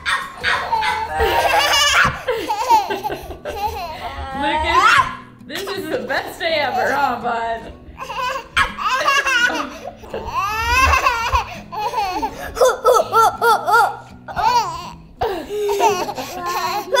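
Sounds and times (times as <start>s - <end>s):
baby and children laughing: 0.0s - 17.0s.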